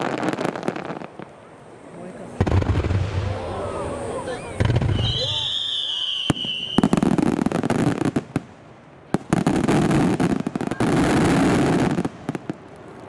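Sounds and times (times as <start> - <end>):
fireworks cracks and bangs: 0.0 - 1.5, 2.3 - 13.0.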